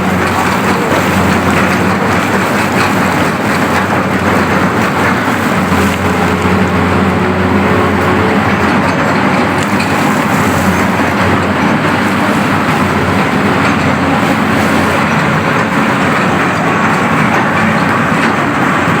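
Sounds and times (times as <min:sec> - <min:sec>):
excavator drum cutter grinding: 0:00.0 - 0:19.0.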